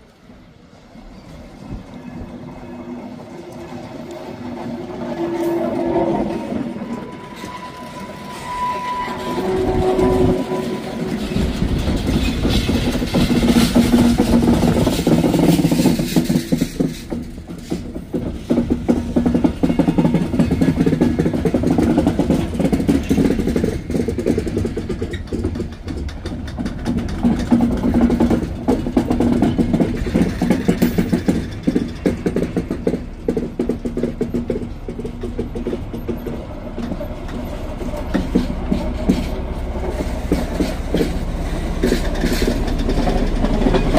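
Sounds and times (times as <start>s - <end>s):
diesel locomotive passing: 0.0s - 43.9s
train wheels clicking over rail joints: 0.4s - 43.9s.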